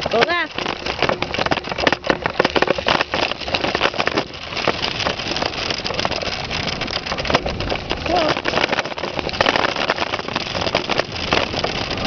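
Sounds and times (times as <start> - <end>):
bike rattling and knocking: 0.0 - 12.0
tyre and wind noise: 0.0 - 12.0.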